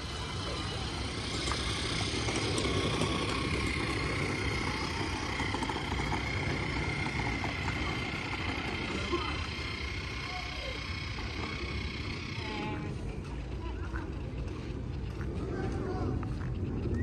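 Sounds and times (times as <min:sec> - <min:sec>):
thin steady whine: 0:00.0 - 0:17.0
traffic rumble: 0:00.0 - 0:17.0.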